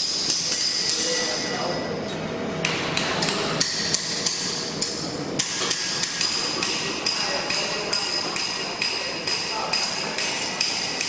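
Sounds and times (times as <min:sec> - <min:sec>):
hammer striking metal: 0:00.0 - 0:01.6, 0:02.6 - 0:11.0.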